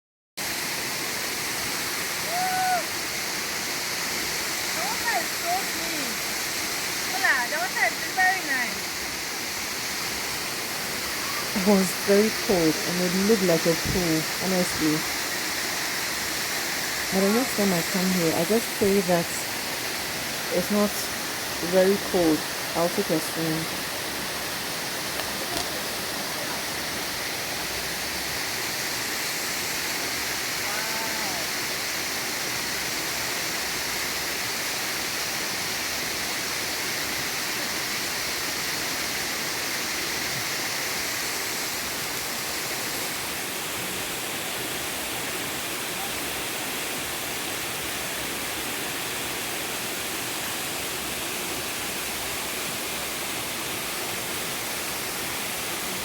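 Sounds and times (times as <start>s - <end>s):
waterfall rushing into pool: 0.4s - 56.0s.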